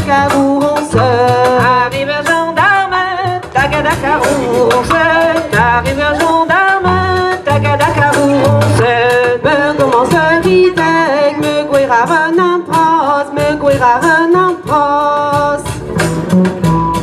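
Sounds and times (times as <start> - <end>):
women singing: 0.0 - 15.8
drums: 0.0 - 17.0
upright double bass: 0.0 - 17.0.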